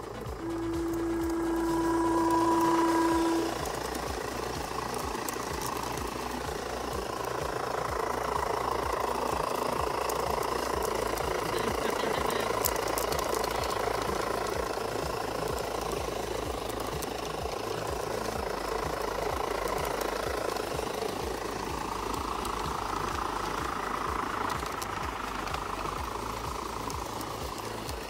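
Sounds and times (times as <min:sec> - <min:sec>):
low ticking from running gear: 0:00.0 - 0:28.0
model locomotive motor whirring: 0:00.0 - 0:28.0.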